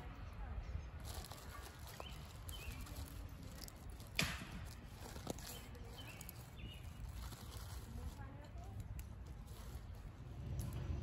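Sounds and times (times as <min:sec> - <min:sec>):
campfire crackling: 0:01.0 - 0:11.0.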